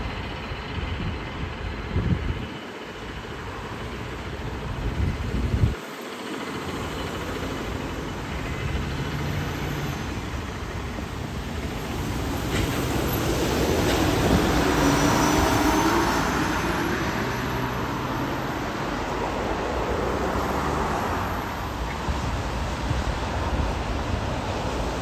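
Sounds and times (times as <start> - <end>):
bus driving past: 0.0 - 25.0
traffic on wet road: 0.0 - 25.0.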